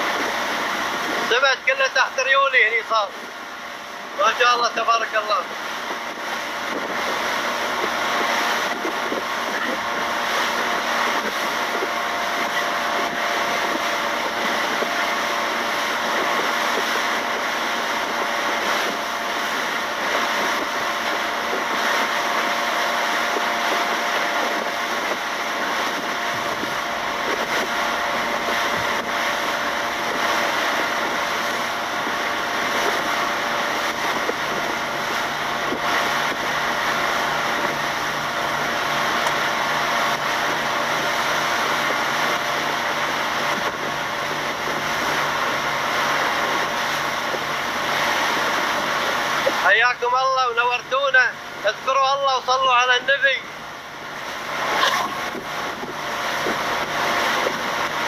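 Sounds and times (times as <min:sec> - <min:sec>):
speedboat engine running: 0:00.0 - 0:58.0.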